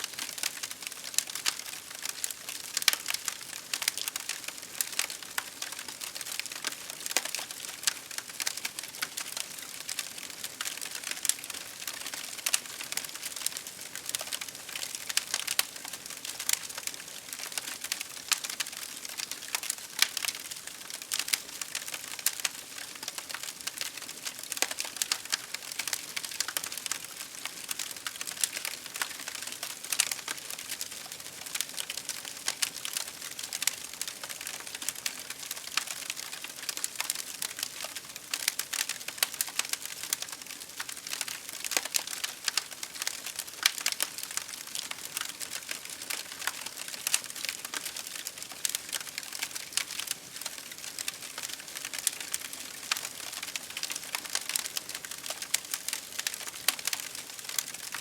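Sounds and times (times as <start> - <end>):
campfire crackling: 0.1 - 58.0.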